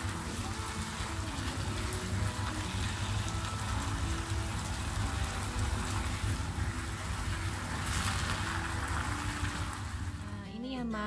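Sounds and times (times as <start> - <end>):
spatula stirring in pan: 0.0 - 10.1
sauce bubbling and sizzling: 0.0 - 10.3
background music: 0.0 - 11.0.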